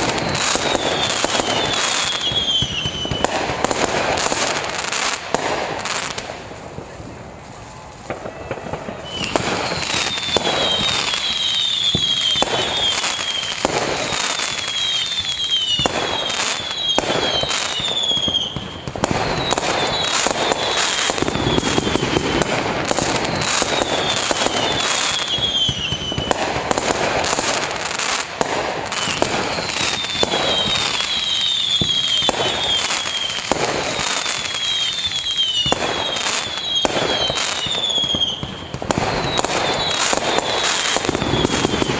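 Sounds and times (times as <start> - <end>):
falling firework whistles: 0.0 - 6.9, 7.5 - 41.9
fireworks bursting with bangs: 0.0 - 41.9
fireworks crackling: 0.0 - 41.9.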